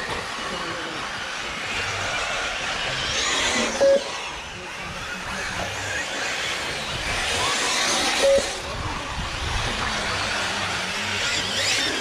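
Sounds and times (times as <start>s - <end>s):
radio-controlled cars whirring: 0.0s - 12.0s.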